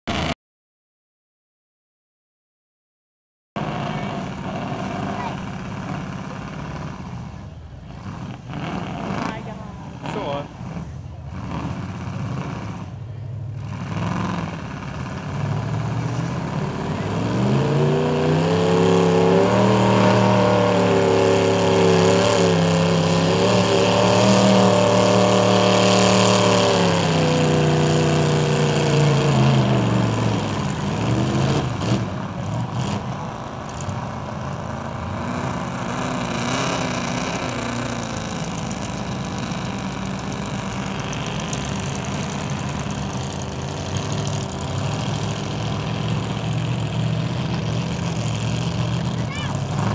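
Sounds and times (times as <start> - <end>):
truck engine revving: 3.6 - 49.9.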